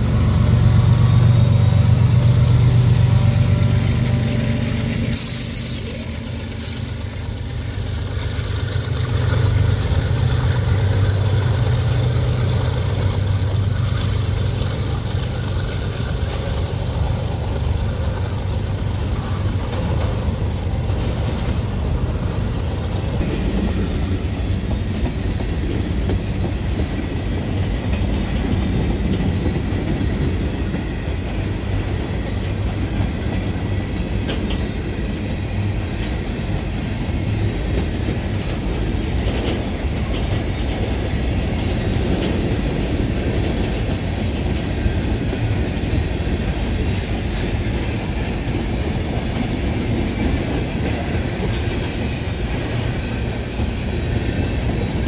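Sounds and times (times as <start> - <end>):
diesel locomotive engines droning: 0.0 - 55.0
train wheels clattering on rails: 0.0 - 55.0.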